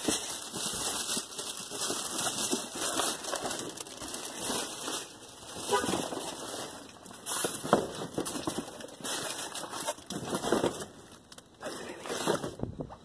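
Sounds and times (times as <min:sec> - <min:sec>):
rummaging through rubbish: 0:00.0 - 0:12.7.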